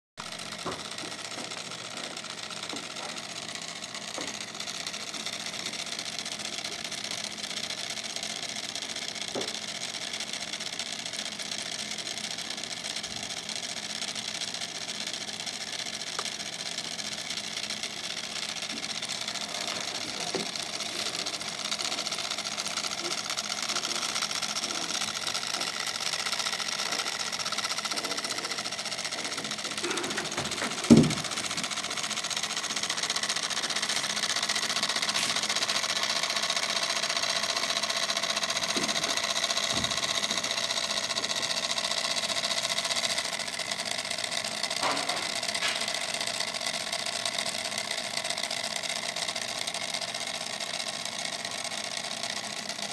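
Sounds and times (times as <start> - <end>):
toy motor whining: 0.2 - 52.9.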